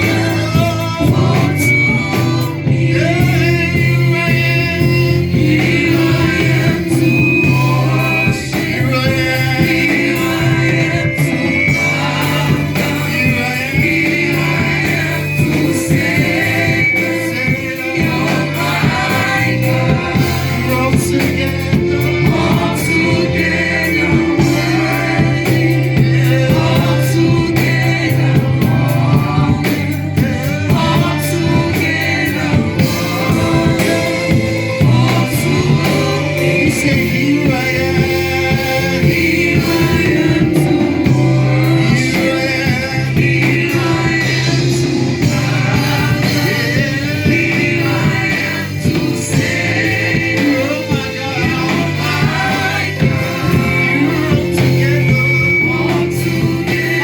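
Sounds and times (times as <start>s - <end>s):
band with bass and beat: 0.0s - 57.0s
gospel choir singing: 0.0s - 57.0s.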